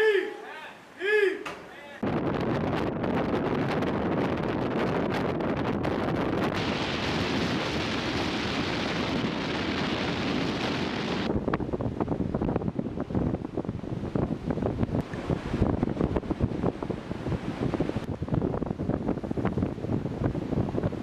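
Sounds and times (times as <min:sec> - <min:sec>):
steady rushing noise: 0:02.0 - 0:21.0
wind buffeting microphone: 0:02.0 - 0:21.0.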